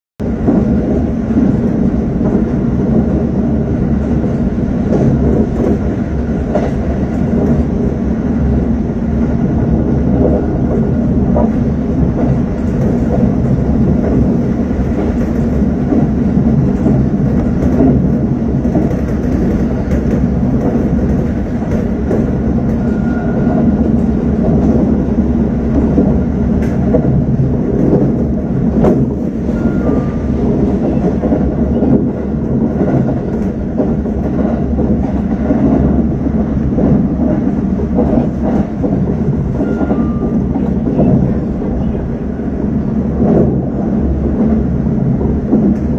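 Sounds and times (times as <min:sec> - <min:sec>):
train wheels rumbling on rail: 0:00.2 - 0:45.9.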